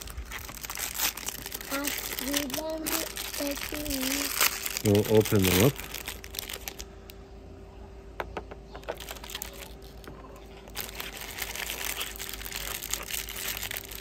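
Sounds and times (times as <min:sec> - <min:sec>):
plastic bag crinkling: 0:00.0 - 0:07.2, 0:08.8 - 0:14.0.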